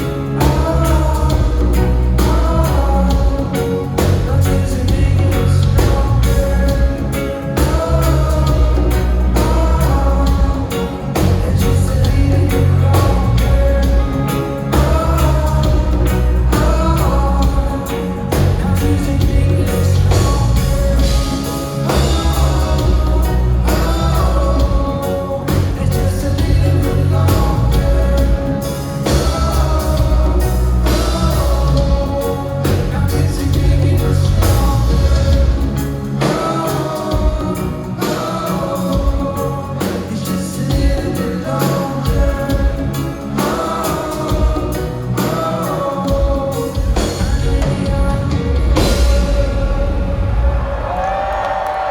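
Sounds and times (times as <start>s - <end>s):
live band playing reggae: 0.0s - 51.9s
person singing lead vocal: 0.0s - 51.9s.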